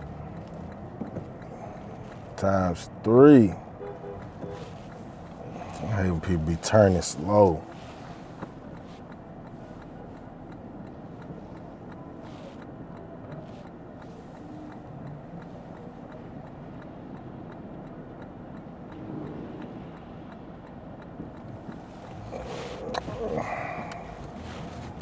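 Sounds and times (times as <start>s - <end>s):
road and tyre noise: 0.0s - 25.0s
turn signal ticking: 0.0s - 25.0s.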